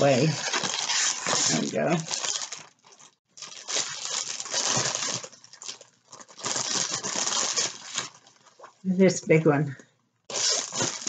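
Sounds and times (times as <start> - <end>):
bubble wrap crinkling: 0.0 - 8.9, 10.3 - 11.0.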